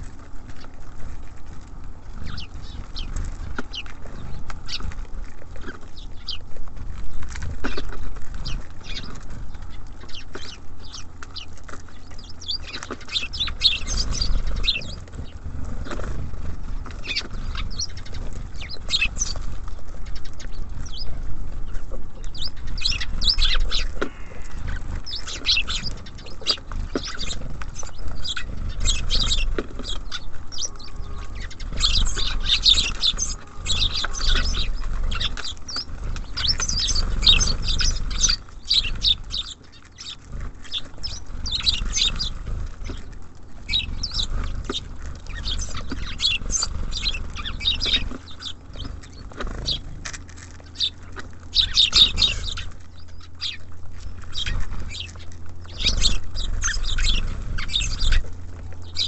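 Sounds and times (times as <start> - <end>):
low steady rumble: 0.0 - 59.0
songbirds chirping: 0.0 - 59.0.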